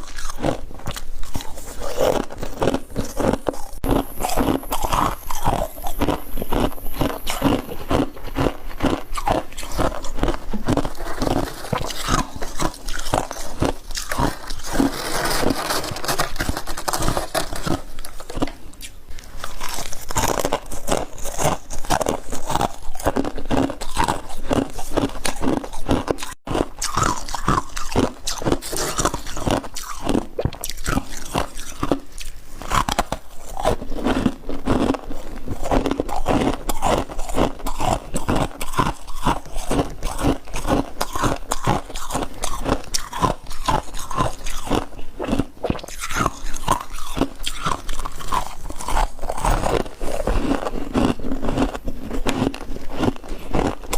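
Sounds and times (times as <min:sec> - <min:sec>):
crunching and chewing ice: 0:00.0 - 0:53.9.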